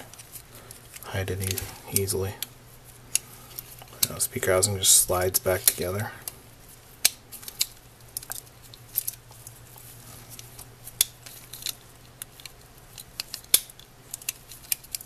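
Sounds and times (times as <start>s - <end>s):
plastic parts clicking and rubbing: 0.0s - 4.2s, 7.0s - 15.0s.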